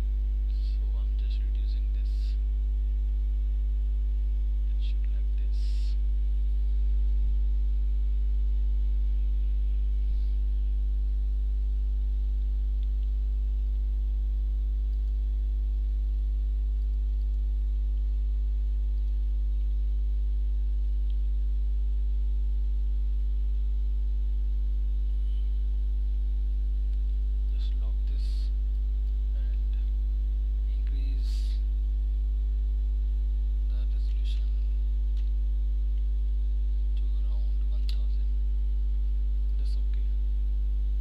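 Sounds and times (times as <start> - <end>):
electrical mains hum: 0.0 - 41.0.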